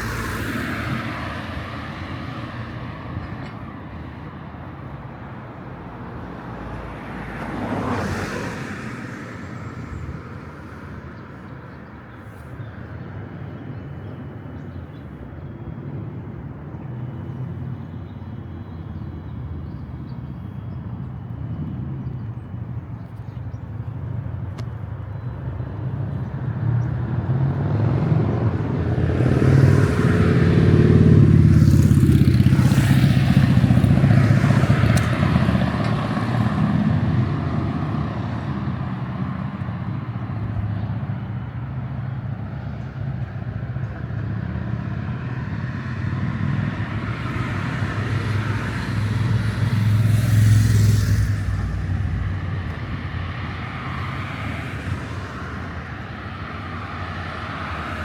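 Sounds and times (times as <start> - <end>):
vehicles driving past: 0.0 - 58.0.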